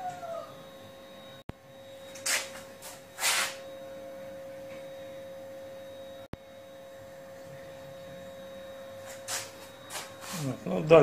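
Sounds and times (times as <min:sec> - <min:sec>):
high electrical hum: 0:00.0 - 0:11.0.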